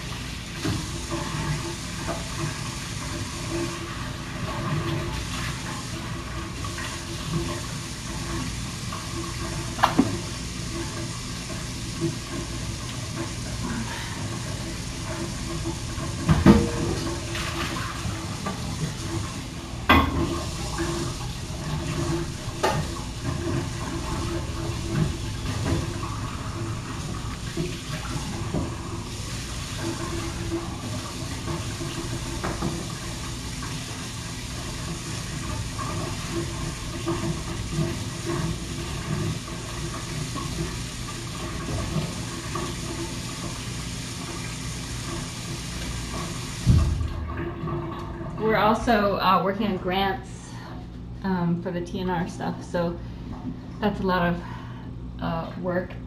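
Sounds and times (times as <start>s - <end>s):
tap water running: 0.0s - 56.0s.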